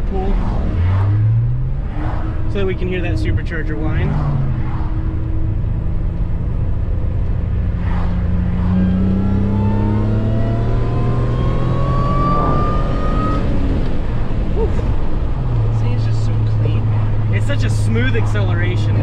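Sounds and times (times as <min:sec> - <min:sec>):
car engine accelerating: 0:00.0 - 0:19.0
supercharger whine: 0:00.0 - 0:19.0.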